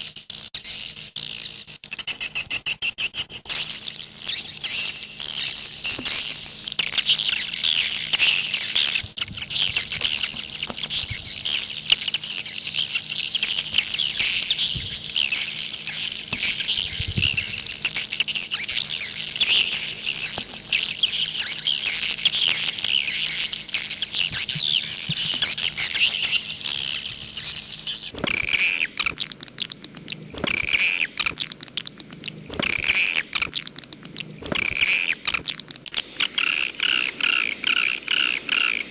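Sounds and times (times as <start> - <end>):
swiftlet calls chattering: 0.0 - 38.9.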